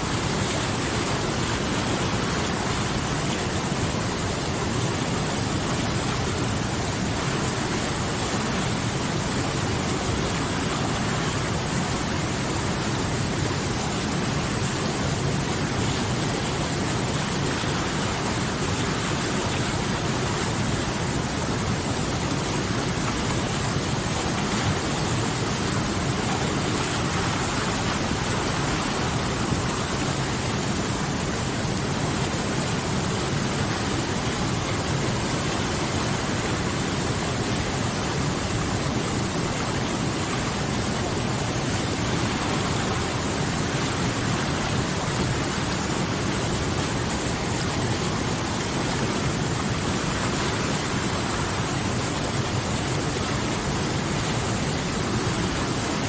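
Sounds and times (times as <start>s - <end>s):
river water rushing: 7.3s - 56.0s.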